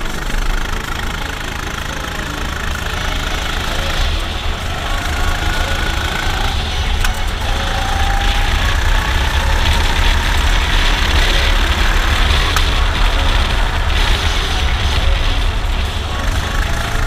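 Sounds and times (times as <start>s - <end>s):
go-kart engine running: 0.0s - 17.0s
uneven low rumble: 0.0s - 17.0s.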